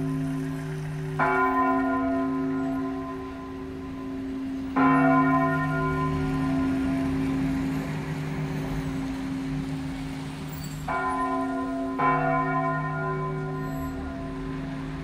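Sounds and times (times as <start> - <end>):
church bell tolling: 0.0 - 10.0, 10.8 - 15.0.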